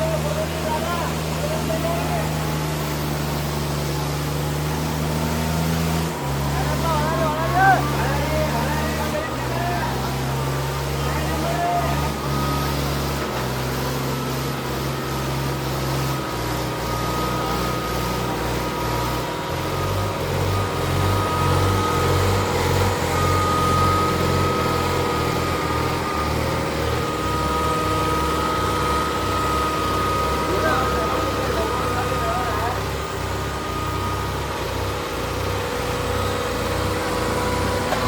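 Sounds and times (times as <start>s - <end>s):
low pulsing throb: 0.0s - 38.0s
tractor engines running under load: 0.0s - 38.0s.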